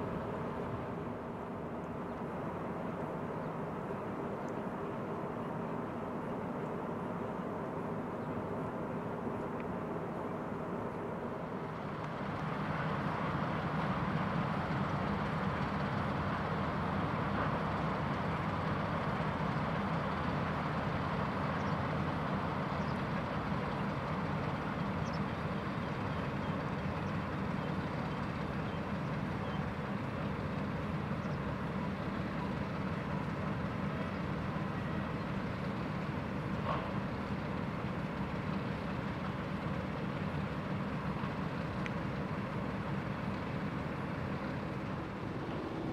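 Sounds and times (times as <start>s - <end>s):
distant diesel freight train rumble: 0.0s - 45.9s.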